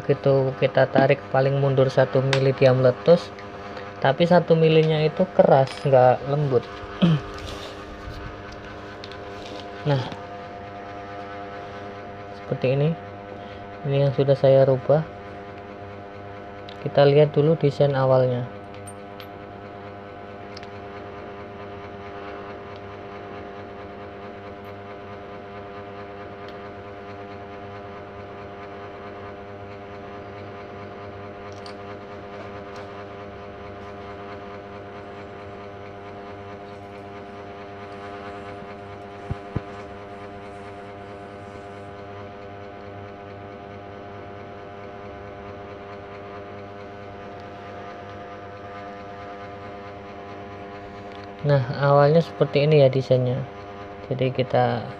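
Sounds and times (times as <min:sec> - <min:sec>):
electric motor humming: 0:00.0 - 0:54.9.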